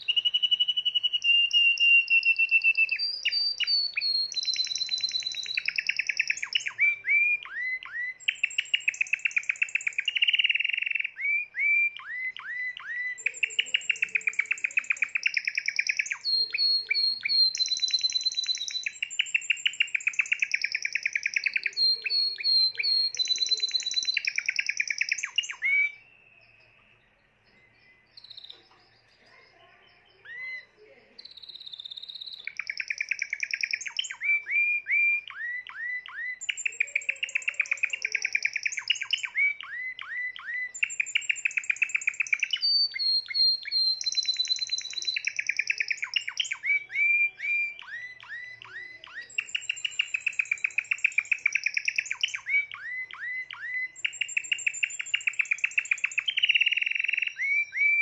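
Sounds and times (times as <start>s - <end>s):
canary singing trills: 0.0s - 58.0s
faint bird chirps: 0.0s - 58.0s.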